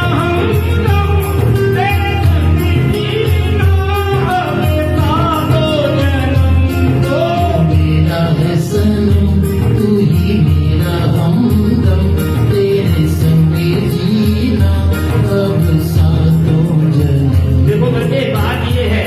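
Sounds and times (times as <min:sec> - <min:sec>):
backing music with bass line: 0:00.0 - 0:19.0
man singing into a microphone: 0:00.0 - 0:19.0.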